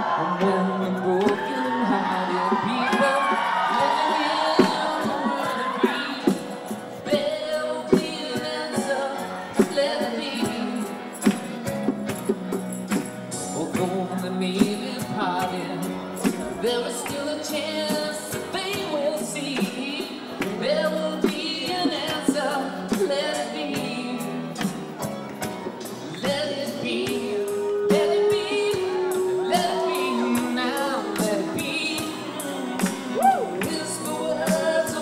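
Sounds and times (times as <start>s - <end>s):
instrumental backing music with beat: 0.0s - 35.0s
person singing: 0.0s - 35.0s.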